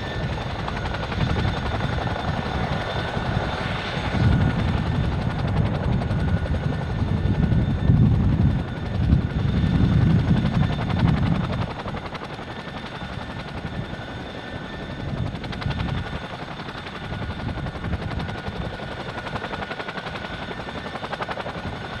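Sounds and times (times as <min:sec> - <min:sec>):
helicopter rotors pulsing: 0:00.0 - 0:22.0.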